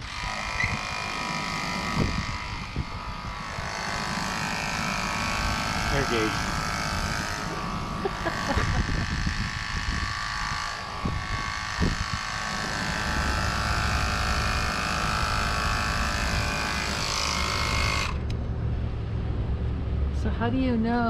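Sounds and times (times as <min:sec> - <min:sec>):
tyre air pump buzzing: 0:00.0 - 0:18.3
low hum: 0:00.0 - 0:21.0.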